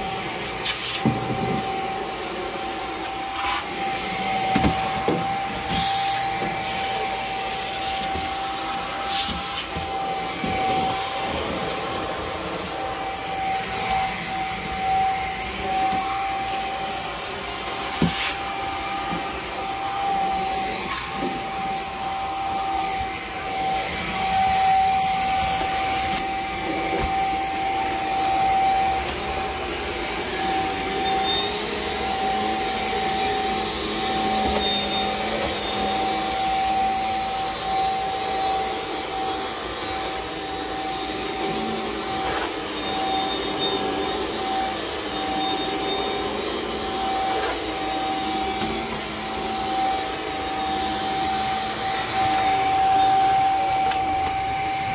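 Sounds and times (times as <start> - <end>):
vacuum cleaner running on carpet: 0.0 - 54.9.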